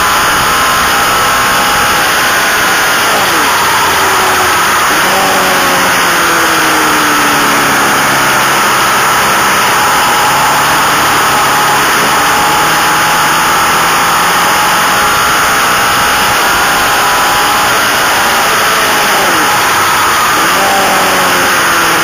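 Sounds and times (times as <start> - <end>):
racing motorcycle engine: 0.0 - 22.0.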